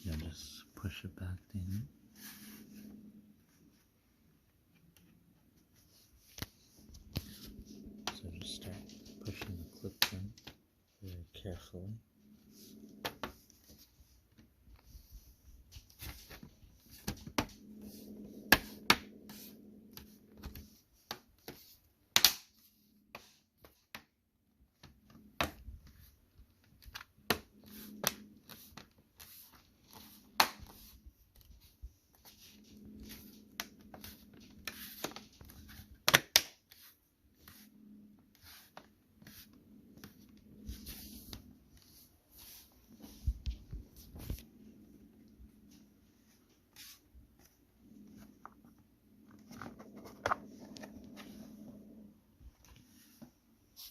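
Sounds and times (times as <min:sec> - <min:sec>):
handling and rubbing noise: 0:01.4 - 0:22.0, 0:24.8 - 0:53.9.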